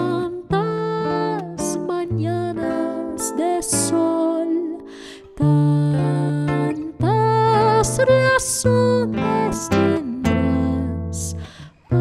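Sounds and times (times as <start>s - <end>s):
classical guitar waltz: 0.0s - 12.0s
woman singing wordless melody: 0.0s - 12.0s.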